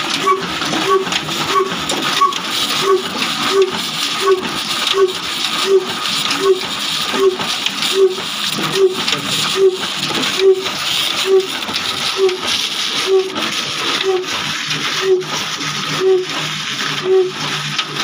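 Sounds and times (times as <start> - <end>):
diesel engine running: 0.0 - 18.0
whooshing belts and machinery: 0.0 - 18.0.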